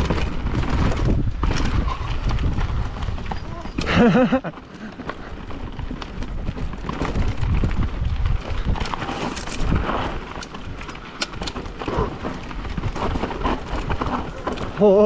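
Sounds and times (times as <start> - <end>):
wind on microphone: 0.0 - 4.4, 5.6 - 15.0
bike chain and frame rattling: 0.0 - 15.0
bike tyres on stone: 0.0 - 15.0.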